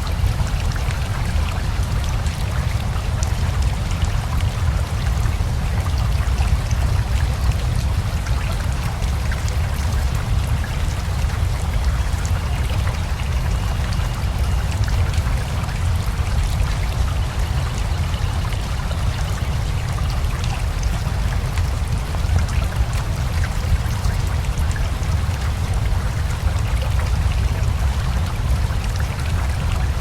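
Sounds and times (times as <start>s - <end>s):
rushing river: 0.0s - 30.0s
steady rain: 0.0s - 30.0s.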